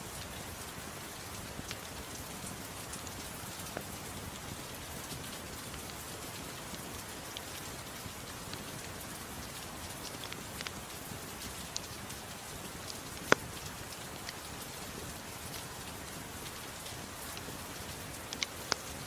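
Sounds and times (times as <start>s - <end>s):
steady rain falling: 0.0s - 19.0s
wood fire crackling and popping: 3.4s - 19.0s.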